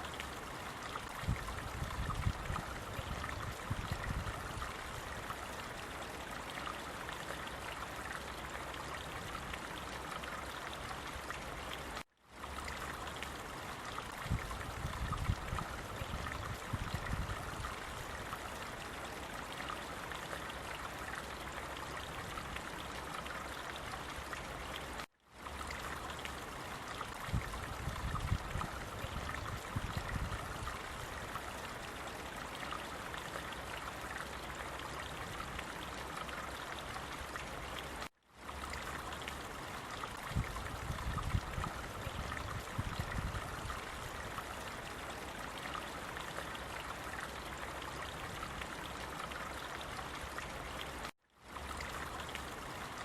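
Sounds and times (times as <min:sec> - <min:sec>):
running water: 0:00.0 - 0:53.0.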